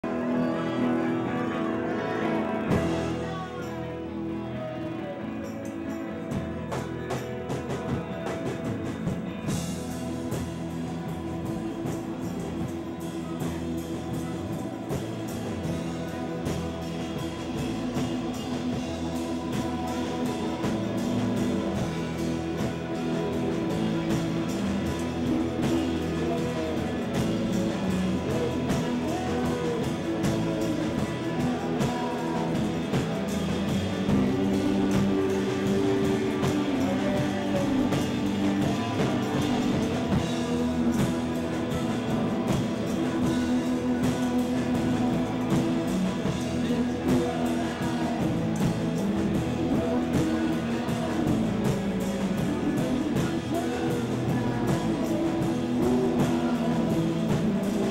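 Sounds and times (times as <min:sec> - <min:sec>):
rock band playing live: 0:00.0 - 0:57.9.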